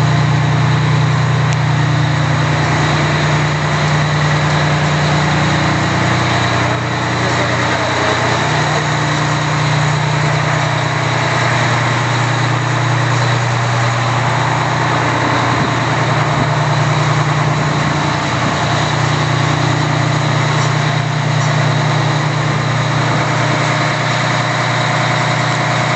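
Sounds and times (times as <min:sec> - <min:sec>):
fire engine idling: 0:00.0 - 0:25.9.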